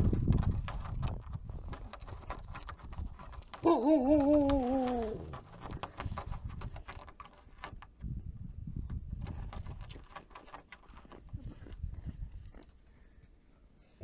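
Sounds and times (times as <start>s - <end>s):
wind rumble on microphone: 0.0s - 10.2s, 11.0s - 12.8s.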